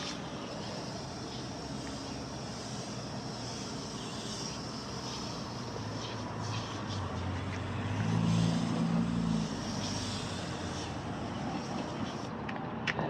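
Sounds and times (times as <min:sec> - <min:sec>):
outdoor background hum: 0:00.0 - 0:13.0
passing vehicle engine: 0:01.6 - 0:12.9.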